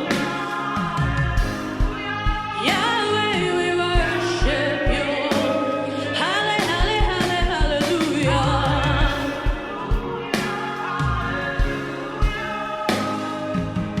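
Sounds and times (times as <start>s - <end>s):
steady drum beat: 0.0s - 5.6s, 6.6s - 14.0s
gospel singing voices: 0.0s - 14.0s
keyboard: 0.0s - 14.0s.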